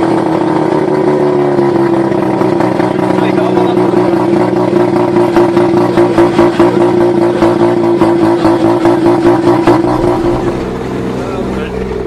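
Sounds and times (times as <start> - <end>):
rotary engine running loud: 0.0 - 12.0.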